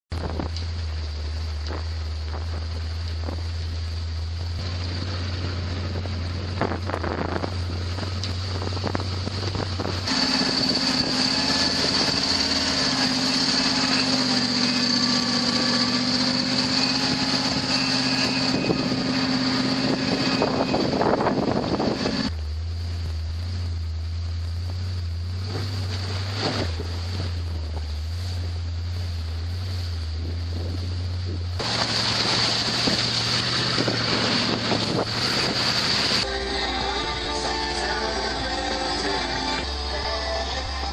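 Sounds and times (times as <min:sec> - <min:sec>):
vehicle engine droning: 0:00.0 - 0:40.9
wind rumbling on microphone: 0:00.1 - 0:40.9.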